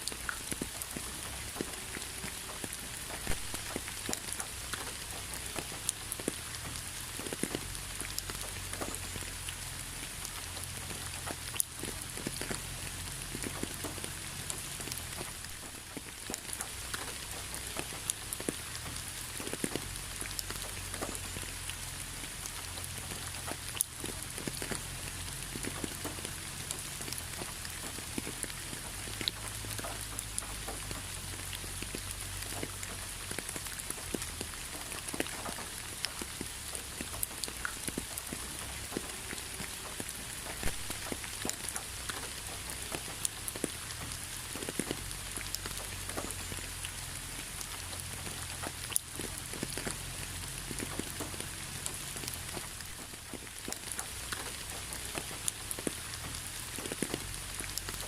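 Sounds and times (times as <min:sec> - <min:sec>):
hiss of rainfall: 0:00.0 - 0:58.0
raindrops tapping close by: 0:00.0 - 0:58.0.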